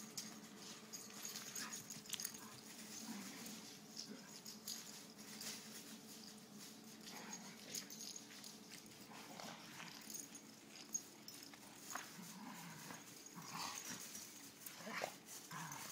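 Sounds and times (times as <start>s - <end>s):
paws rustling on dry grass: 0.0s - 15.9s.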